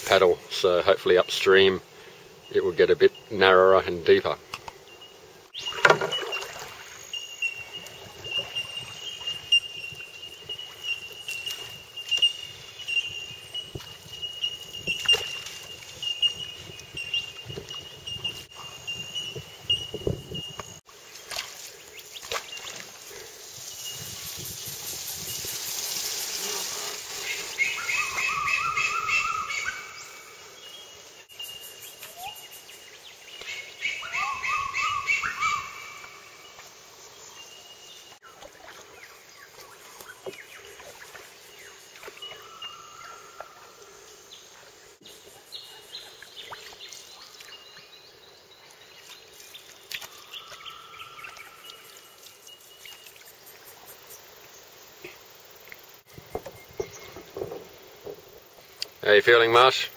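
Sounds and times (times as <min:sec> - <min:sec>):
birds singing: 0:00.0 - 0:25.6, 0:26.3 - 0:59.9.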